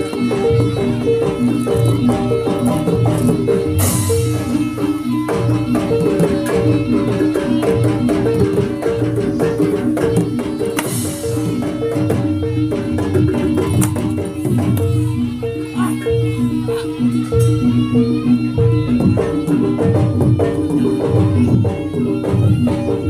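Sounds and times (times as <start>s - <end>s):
metallophone notes: 0.0s - 23.0s.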